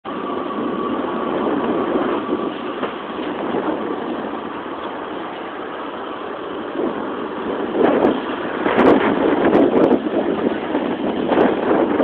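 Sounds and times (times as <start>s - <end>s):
traffic engines running: 0.0s - 12.0s
faint steady whine: 0.1s - 12.0s.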